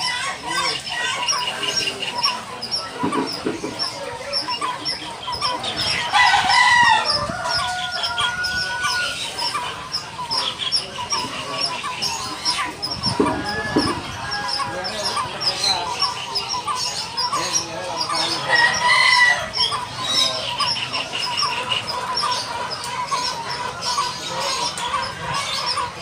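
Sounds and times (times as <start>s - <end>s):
bird chirping: 0.0s - 26.0s
drawn-out bird call: 0.0s - 26.0s.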